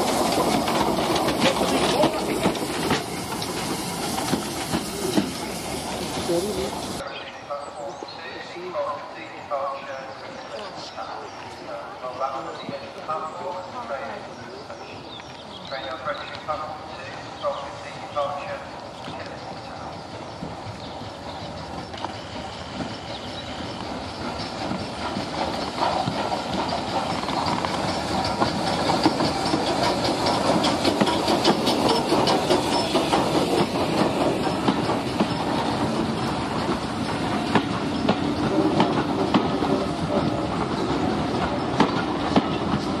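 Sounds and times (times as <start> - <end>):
train wheels clicking over rail joints: 0.0 - 7.0, 15.1 - 43.0
steam locomotive passing: 0.0 - 43.0.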